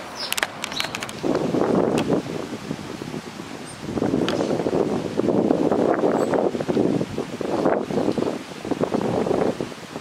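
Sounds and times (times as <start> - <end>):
leaves rustling: 0.0 - 10.0
wind buffeting microphone: 0.0 - 10.0.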